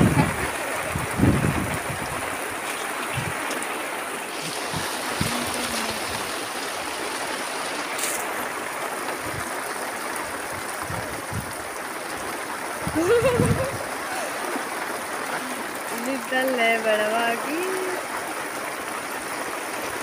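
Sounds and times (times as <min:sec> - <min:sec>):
rain on a thatched roof: 0:00.0 - 0:20.0.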